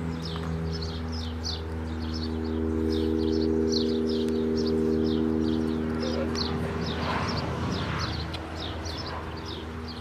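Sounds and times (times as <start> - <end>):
low sustained drone: 0.0 - 10.0
small birds chirping: 0.0 - 10.0.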